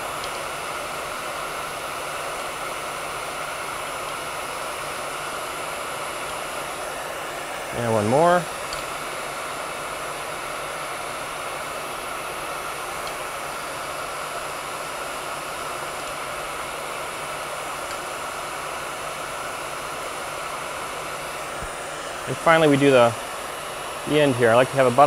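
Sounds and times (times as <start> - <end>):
heat gun fan blowing: 0.0 - 25.0.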